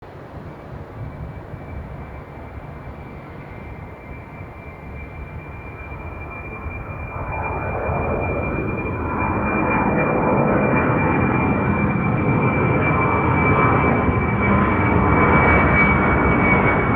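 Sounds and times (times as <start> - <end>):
jet engines at takeoff: 0.0 - 16.9.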